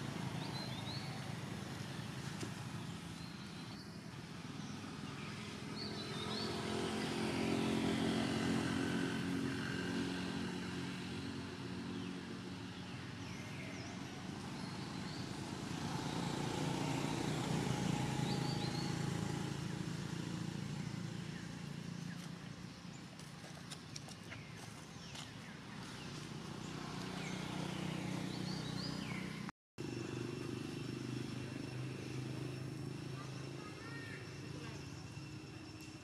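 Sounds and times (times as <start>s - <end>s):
vehicle engines humming: 0.0s - 36.0s.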